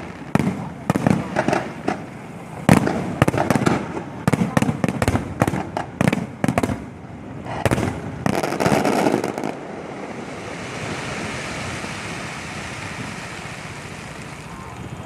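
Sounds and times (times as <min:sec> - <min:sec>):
firework bang: 0:00.0 - 0:14.8
crackling firework explosions: 0:00.0 - 0:15.0
steady hiss: 0:00.0 - 0:15.0.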